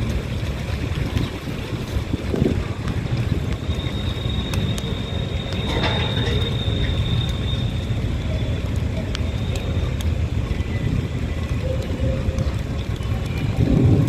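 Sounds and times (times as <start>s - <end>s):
low rumbling wind: 0.0s - 14.0s.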